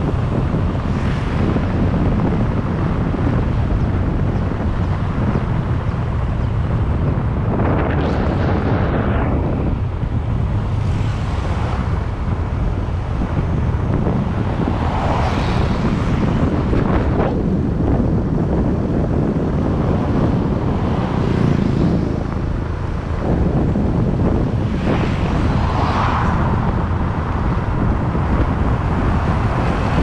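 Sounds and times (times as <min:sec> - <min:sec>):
motorbike engine hum: 0:00.0 - 0:30.0
road noise: 0:00.0 - 0:30.0
wind rushing over microphone: 0:00.0 - 0:30.0.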